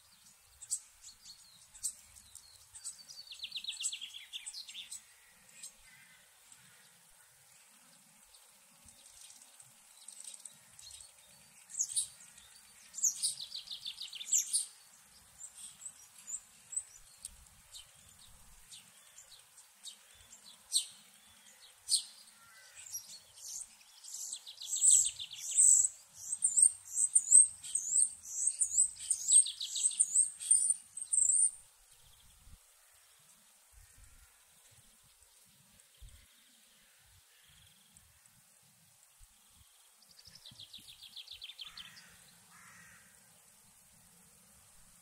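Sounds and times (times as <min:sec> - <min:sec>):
songbirds chirping and trilling: 0:00.0 - 0:45.0.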